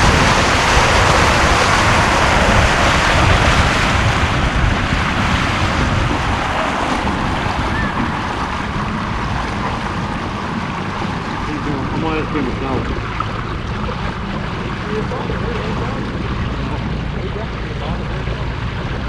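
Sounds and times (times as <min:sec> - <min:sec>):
water rushing along boat hull: 0:00.0 - 0:19.0
wind on microphone: 0:00.0 - 0:19.0.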